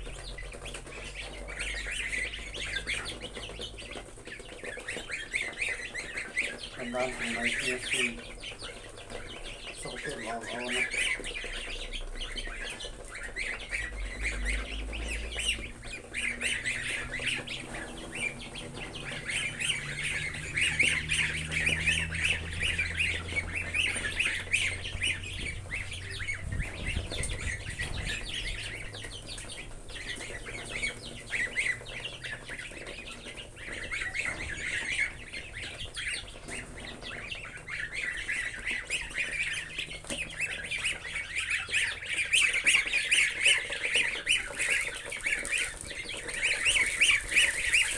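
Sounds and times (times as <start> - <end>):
goslings peeping: 0.0 - 47.9.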